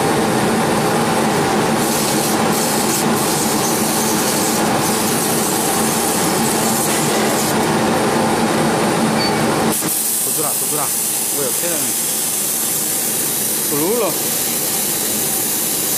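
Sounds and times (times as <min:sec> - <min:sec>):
laser cutter rushing hiss: 0:01.5 - 0:07.7, 0:09.0 - 0:15.9.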